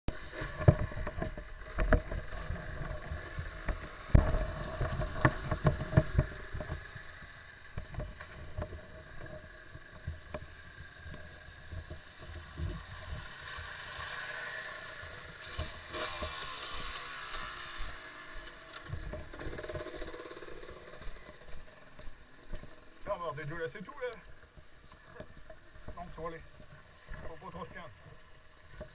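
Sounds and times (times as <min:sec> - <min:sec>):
quad and dirt bike engines idling: 0:00.1 - 0:28.9.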